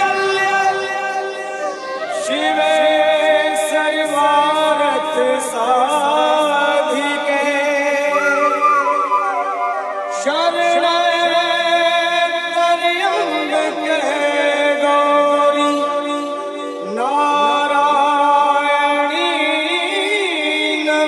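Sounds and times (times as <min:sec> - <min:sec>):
person singing wavering melody: 0:00.0 - 0:21.0.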